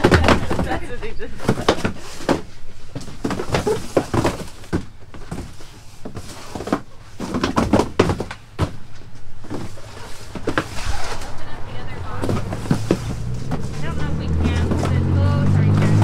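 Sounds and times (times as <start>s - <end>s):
cardboard boxes thunking down: 0.0s - 11.4s, 12.2s - 16.0s
scuffing and shuffling: 0.0s - 16.0s.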